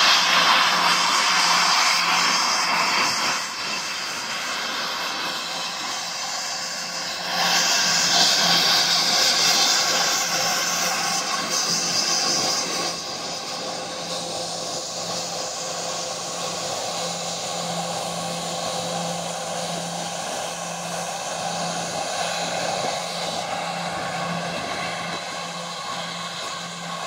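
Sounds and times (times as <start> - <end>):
jet engines whining at idle: 0.0 - 27.0
hissing rush: 4.6 - 27.0.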